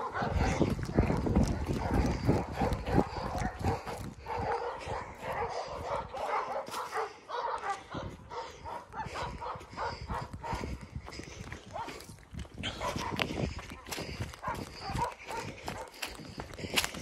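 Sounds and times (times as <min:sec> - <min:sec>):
dogs barking rapidly: 0:00.0 - 0:17.0.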